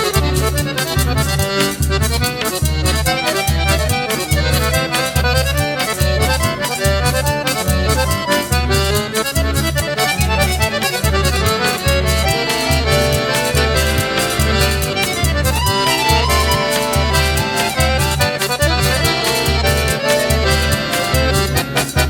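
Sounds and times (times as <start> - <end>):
accordion melody: 0.0 - 22.0
pulsing bass beat: 0.0 - 22.0.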